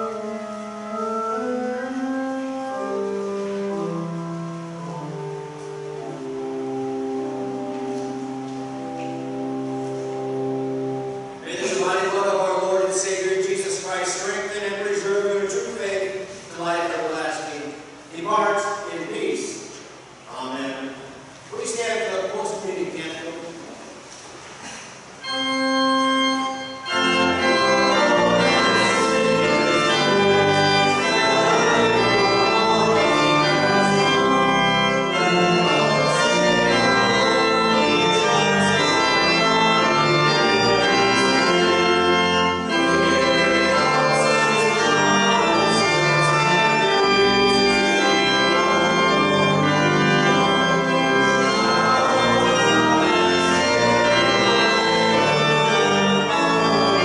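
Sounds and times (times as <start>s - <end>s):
church organ chords: 0.0s - 23.5s, 25.2s - 57.0s.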